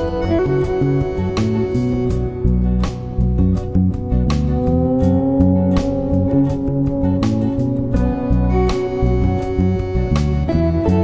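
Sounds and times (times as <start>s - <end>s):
guitar music with bass and beat: 0.0s - 11.0s.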